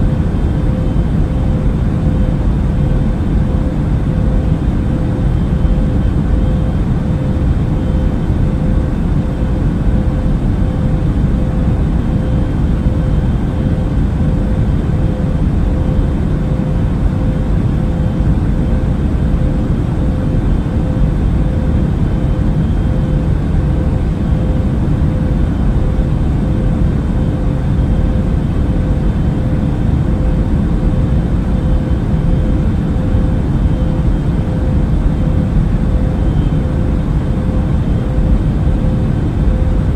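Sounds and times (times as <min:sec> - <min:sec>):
airliner cabin air and engine rush: 0:00.0 - 0:39.9
faint steady hum: 0:00.0 - 0:39.9.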